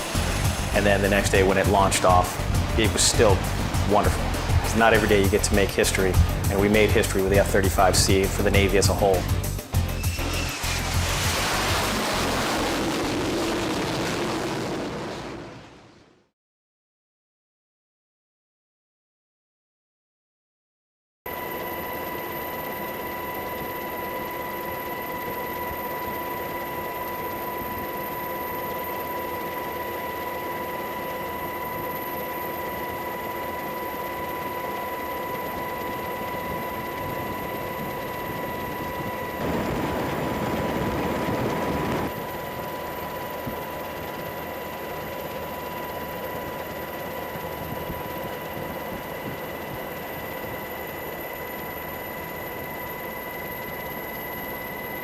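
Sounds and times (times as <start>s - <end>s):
machine with high whining tones: 0.0s - 13.4s, 21.3s - 55.0s.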